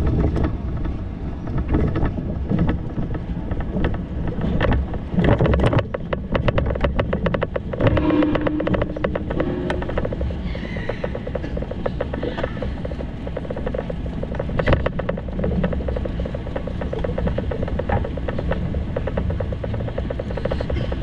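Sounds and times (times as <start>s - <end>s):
bicycle ride rumble: 0.0s - 21.0s
rapid clicks and rattles: 0.0s - 21.0s
steady hum: 2.6s - 21.0s.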